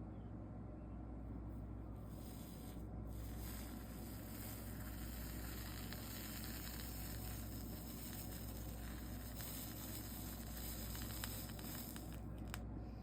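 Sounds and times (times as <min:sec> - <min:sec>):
low electrical hum: 0:00.0 - 0:13.0
solder sizzling hiss: 0:02.0 - 0:13.0.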